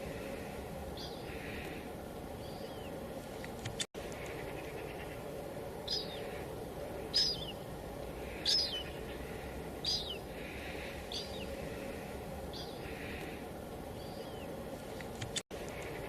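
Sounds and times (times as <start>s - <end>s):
light rain hiss: 0.0s - 16.0s
bird chirping: 0.9s - 16.0s.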